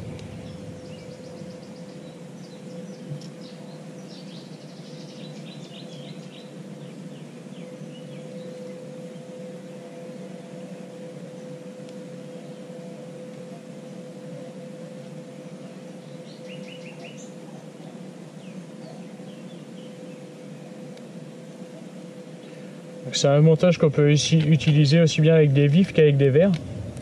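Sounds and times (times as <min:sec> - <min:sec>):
birds chirping: 0:00.0 - 0:11.6, 0:12.3 - 0:23.4
faint steady hum: 0:00.0 - 0:27.0
outdoor background noise: 0:00.0 - 0:27.0.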